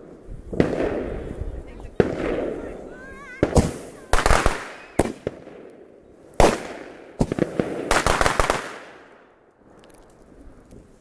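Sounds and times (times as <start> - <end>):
firework bangs: 0.0 - 9.4
fireworks crackling: 0.0 - 11.0.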